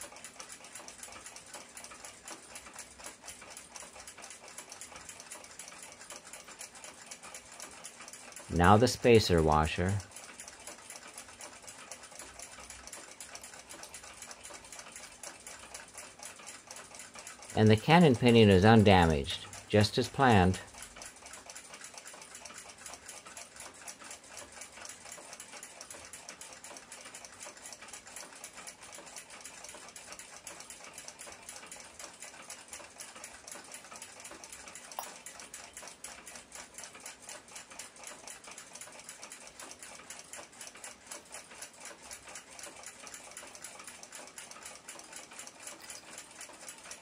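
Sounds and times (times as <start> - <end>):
clock ticking rapidly: 0.0 - 47.0.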